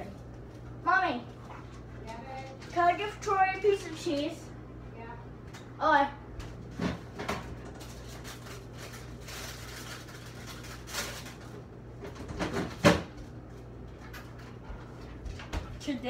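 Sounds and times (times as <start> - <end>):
refrigerator hum: 0.0 - 16.0.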